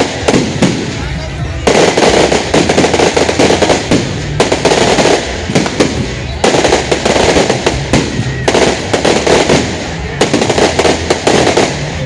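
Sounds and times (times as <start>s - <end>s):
firecrackers crackling: 0.0s - 12.0s
loud bangs: 0.0s - 12.0s.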